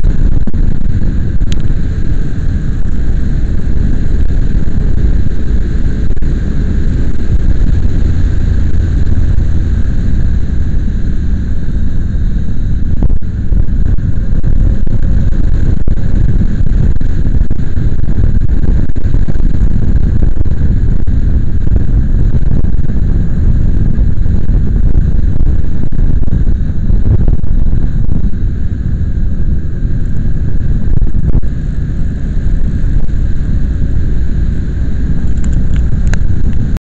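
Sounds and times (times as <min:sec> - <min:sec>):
vehicle road noise: 0:00.0 - 0:36.8
wind buffeting microphone: 0:00.0 - 0:36.8.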